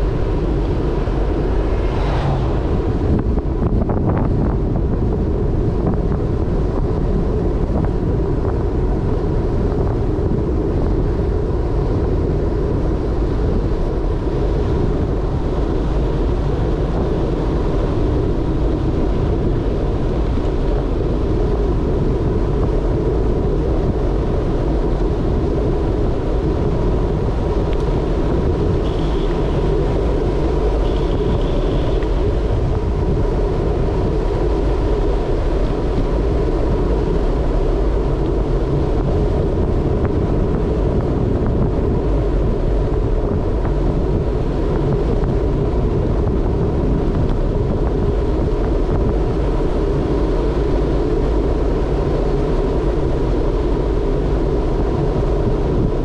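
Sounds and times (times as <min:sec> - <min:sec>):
bicycle tyres rolling on rough road: 0:00.0 - 0:56.0
wind buffeting microphone: 0:00.0 - 0:56.0.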